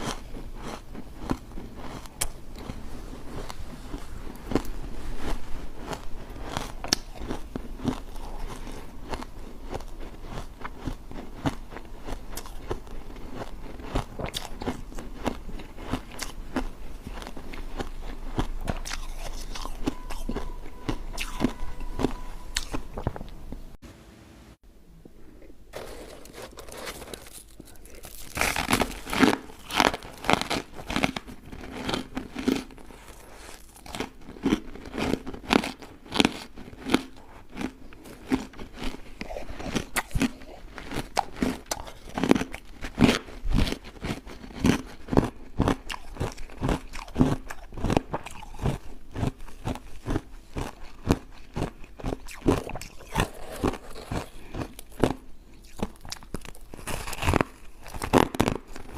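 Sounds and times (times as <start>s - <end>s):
ice being chewed: 0.0s - 23.7s, 25.7s - 58.9s.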